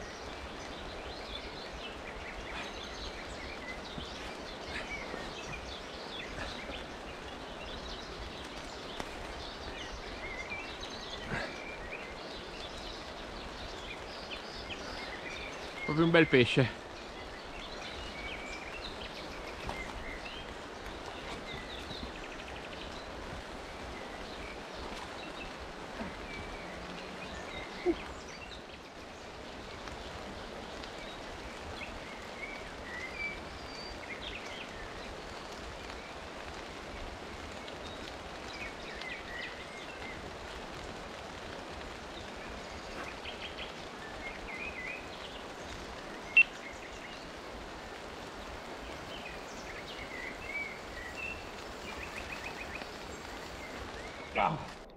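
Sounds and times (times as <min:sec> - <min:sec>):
birds chirping: 0:00.0 - 0:54.9
rain falling on river: 0:00.0 - 0:54.9.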